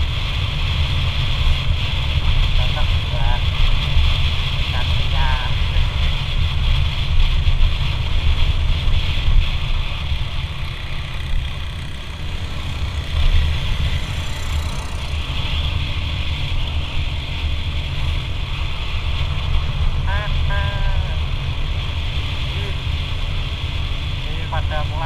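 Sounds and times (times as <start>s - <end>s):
motorcycle engine running: 0.0s - 25.0s
wind buffeting the microphone: 0.0s - 25.0s.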